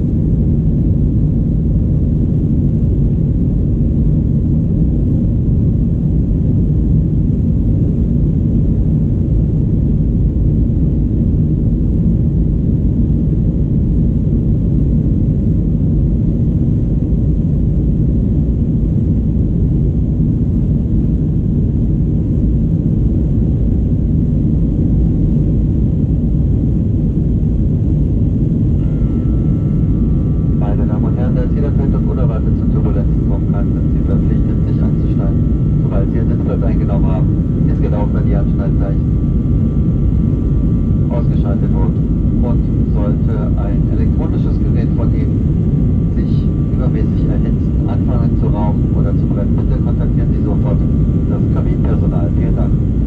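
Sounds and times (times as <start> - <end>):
airplane cabin rumble: 0.0 - 53.0.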